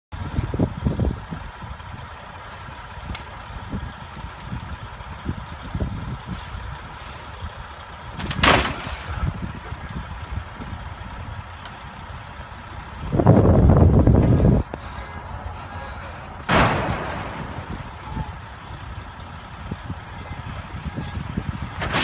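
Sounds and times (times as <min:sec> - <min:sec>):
low rumble of trucks: 0:00.1 - 0:22.0
wind buffeting microphone: 0:00.1 - 0:22.0.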